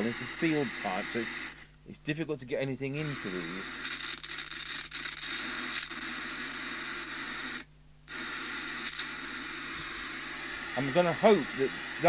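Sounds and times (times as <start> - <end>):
radio receiver hiss: 0.0 - 12.0
volume control crackling: 0.0 - 12.0.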